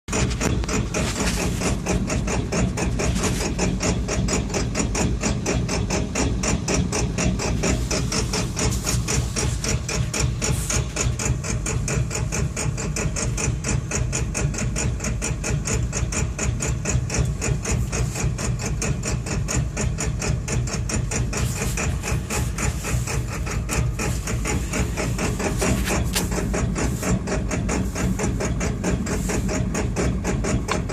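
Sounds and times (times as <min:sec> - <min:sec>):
engine idling roughly: 0:00.1 - 0:30.9.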